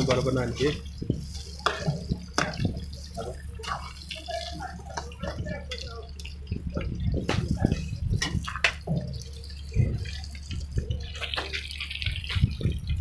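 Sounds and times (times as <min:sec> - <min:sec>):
faint background voices: 0:00.0 - 0:11.4
dough frying in hot oil: 0:00.0 - 0:13.0.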